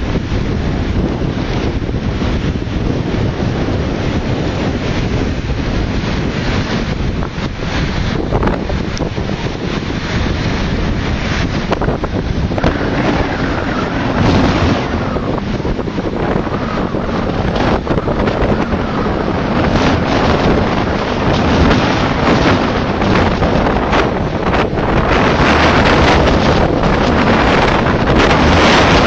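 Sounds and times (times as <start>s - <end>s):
choppy sea: 0.0s - 29.0s
strong wind buffeting microphone: 0.0s - 29.0s.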